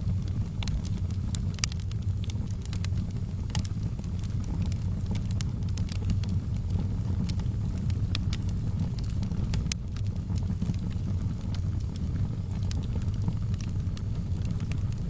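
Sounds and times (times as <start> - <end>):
fire crackles and pops: 0.0 - 15.0
fire rumbling in a fireplace: 0.0 - 15.0.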